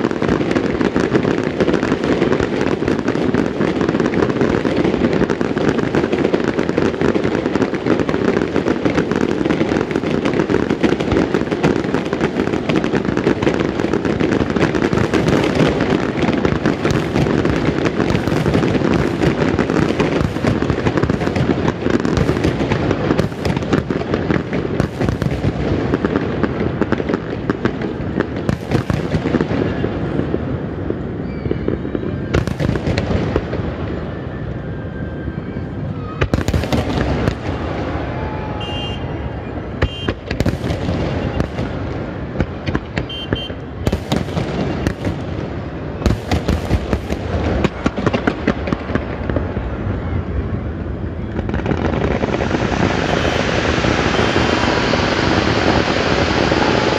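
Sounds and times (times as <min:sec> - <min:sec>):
fireworks bursts and crackle: 0:00.0 - 0:56.9.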